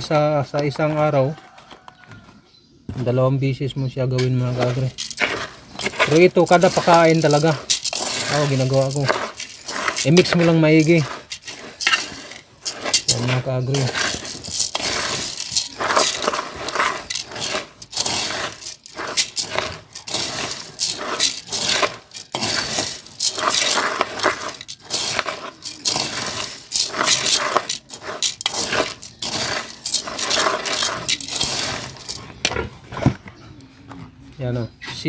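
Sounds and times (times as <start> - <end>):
pellets rattling in metal pot: 4.1 - 32.6
spoon scraping metal pot: 4.2 - 33.2.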